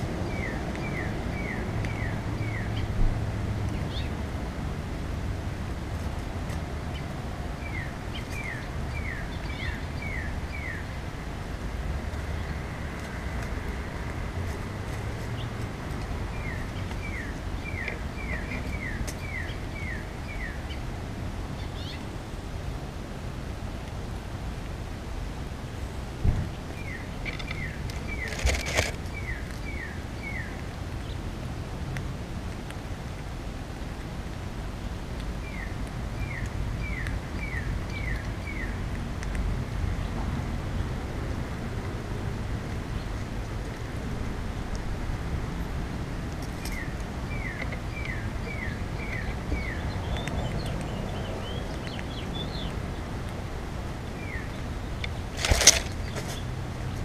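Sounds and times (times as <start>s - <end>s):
crackling rustle: 3.6s - 20.5s, 23.4s - 57.0s.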